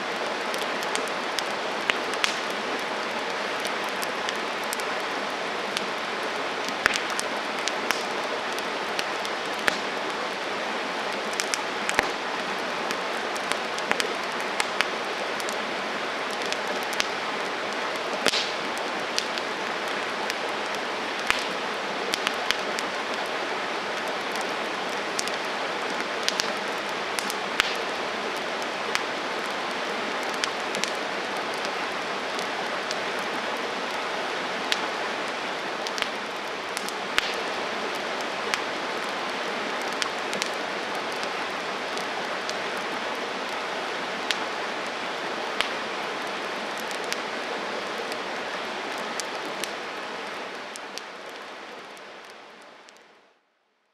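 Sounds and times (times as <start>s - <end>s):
campfire crackling and hissing: 0.0s - 53.9s.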